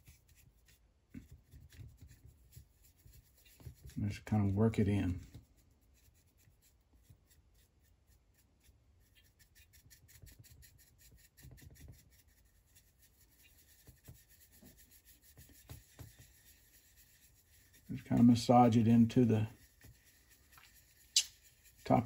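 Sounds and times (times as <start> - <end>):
soft brush rubbing on plastic: 0.0 - 22.0.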